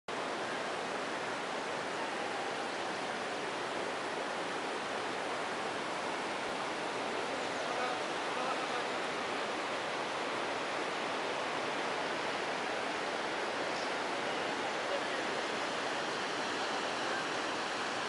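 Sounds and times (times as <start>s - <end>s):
river water flowing over rocks: 0.1s - 18.0s.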